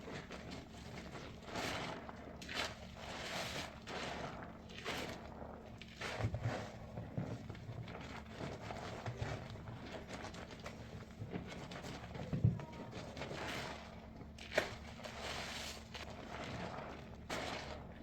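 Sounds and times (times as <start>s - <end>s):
soapy sponge squishing: 0.1s - 18.0s.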